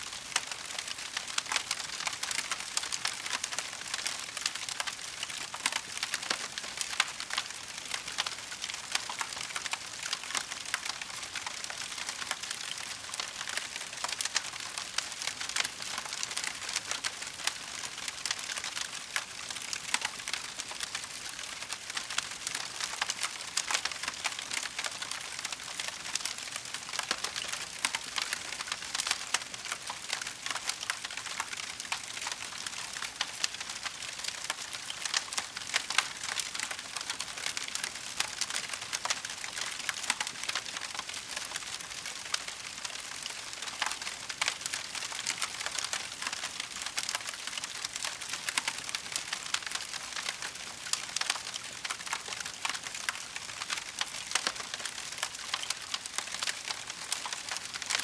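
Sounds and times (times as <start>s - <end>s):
wood fire crackling: 0.2s - 58.0s.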